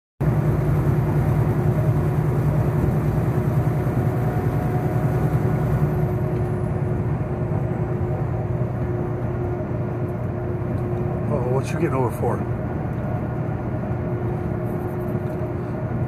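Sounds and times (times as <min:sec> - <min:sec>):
truck engine and tyre rumble: 0:00.2 - 0:16.0.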